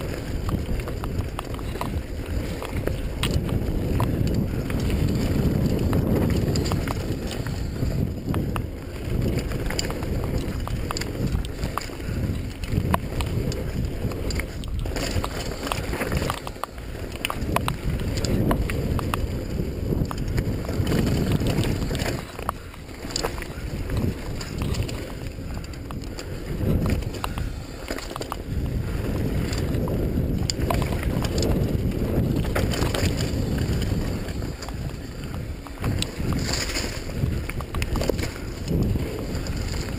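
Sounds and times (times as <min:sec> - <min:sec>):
bike clicks and rattles: 0:00.0 - 0:39.9
mountain bike rolling on dirt: 0:00.0 - 0:39.9
wind buffeting microphone: 0:00.0 - 0:39.9.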